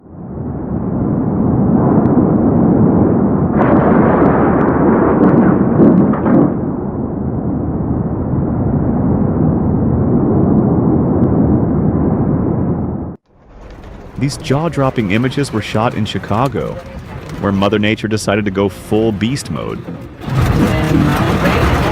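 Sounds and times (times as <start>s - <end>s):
low thunder rumble: 0.0s - 21.9s
thunder crack and crackling: 0.0s - 21.9s.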